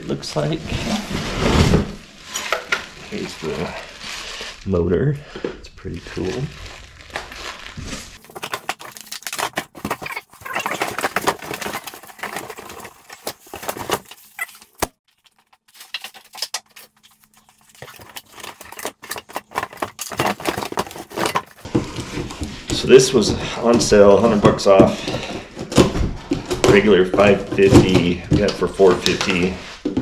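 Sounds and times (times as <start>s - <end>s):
packaging rustling and crinkling: 0.4s - 4.8s, 5.9s - 30.0s.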